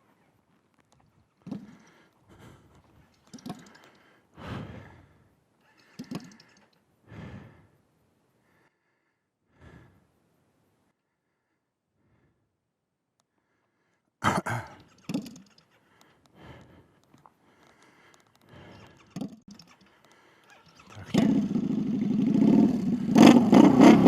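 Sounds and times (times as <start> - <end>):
person breathing heavily: 1.4 - 12.7, 13.3 - 21.6.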